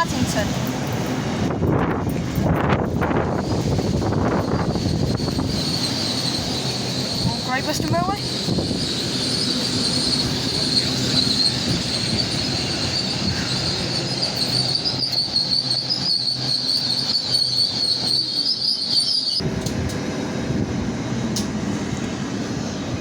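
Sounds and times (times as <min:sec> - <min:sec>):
train wheel squeal: 0:00.0 - 0:19.4
train rumble: 0:00.0 - 0:23.0.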